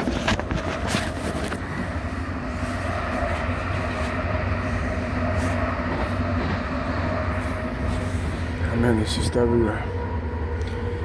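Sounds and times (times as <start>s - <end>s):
train rumble with whine: 0.0s - 11.0s.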